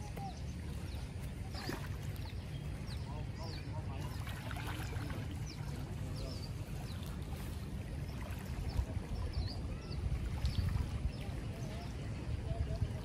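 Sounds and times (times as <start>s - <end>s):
waves lapping on stone shore: 0.0s - 13.0s
wind rumbling on microphone: 0.0s - 13.0s.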